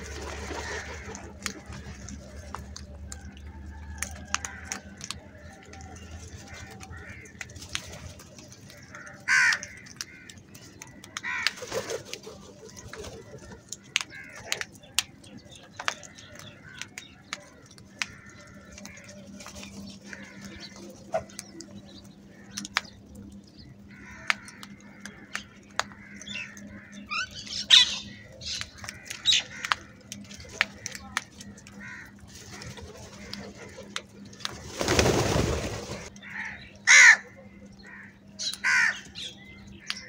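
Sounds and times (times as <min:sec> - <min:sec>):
crows cawing: 0:00.0 - 0:02.6, 0:03.2 - 0:12.0, 0:12.6 - 0:40.0
crows pecking on concrete: 0:00.0 - 0:40.0.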